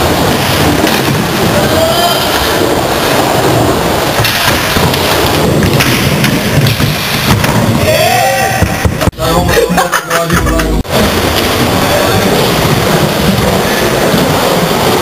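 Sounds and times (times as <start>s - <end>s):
skateboard wheels rumbling on ramp: 0.0s - 15.0s.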